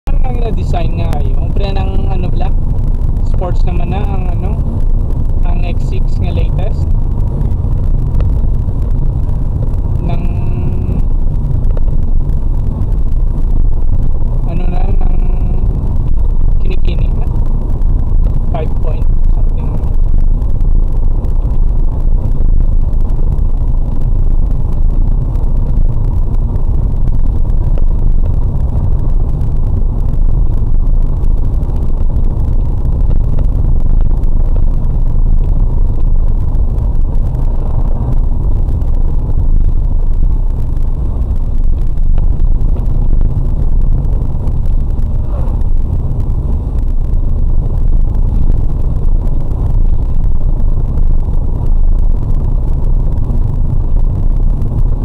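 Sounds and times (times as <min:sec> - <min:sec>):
road and engine rumble in car: 0:00.0 - 0:55.0.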